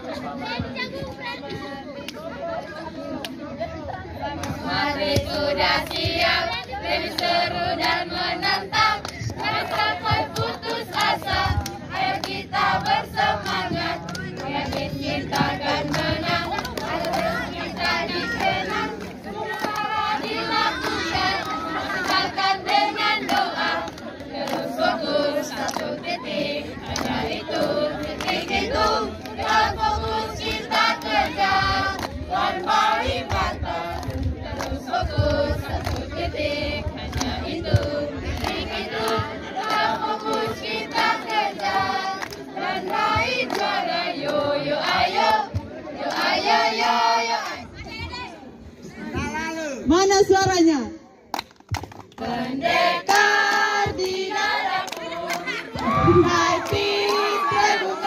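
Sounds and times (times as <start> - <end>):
group singing a chant: 0.0 - 47.8, 52.2 - 58.0
hand claps: 4.4 - 36.2, 37.0 - 46.3, 51.3 - 58.0.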